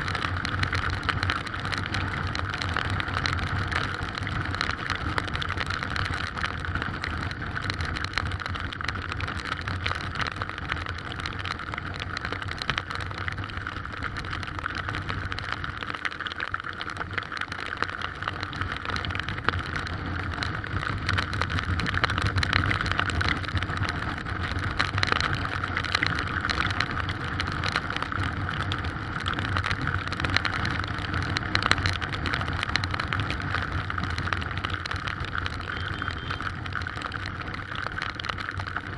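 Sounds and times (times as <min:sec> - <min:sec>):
heavy rain in strong wind: 0:00.0 - 0:38.9.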